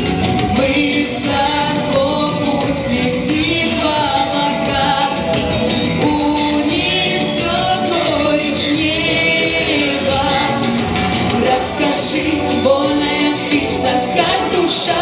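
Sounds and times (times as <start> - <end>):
instrumental accompaniment: 0.0 - 15.0
person singing: 0.0 - 15.0.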